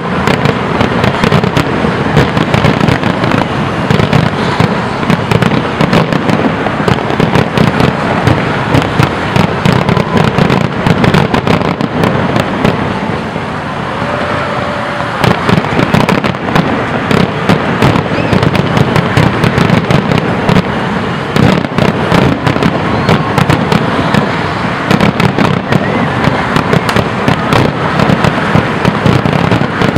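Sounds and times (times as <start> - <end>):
fireworks bursts and bangs: 0.0 - 13.5, 15.1 - 29.9.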